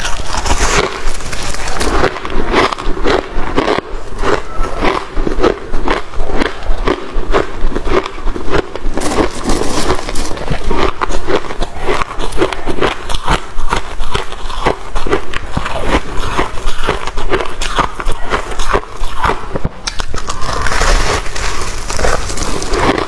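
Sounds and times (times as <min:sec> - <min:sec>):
crunching of frost being chewed: 0:00.0 - 0:23.0.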